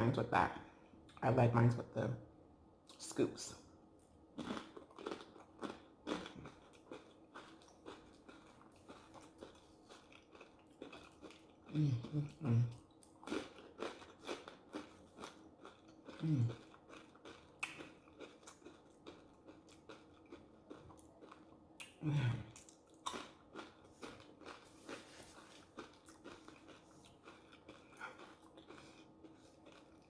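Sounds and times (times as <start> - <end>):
chewing and crunching food: 3.9 - 30.0.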